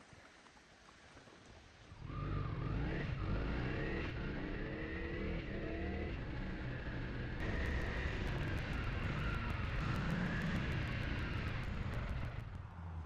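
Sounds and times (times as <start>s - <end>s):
motorcycle engine accelerating: 2.0s - 13.0s.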